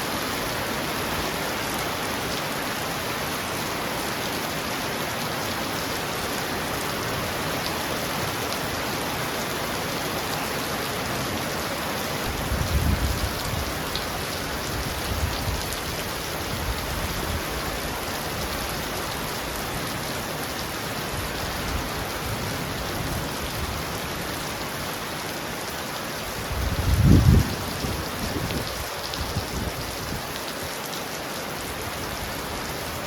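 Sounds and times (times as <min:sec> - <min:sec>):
heavy rain on a roof: 0:00.0 - 0:33.0.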